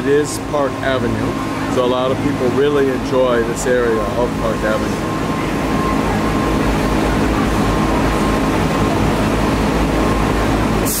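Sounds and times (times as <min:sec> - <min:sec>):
street traffic: 0:00.0 - 0:11.0
truck engine humming: 0:00.0 - 0:11.0.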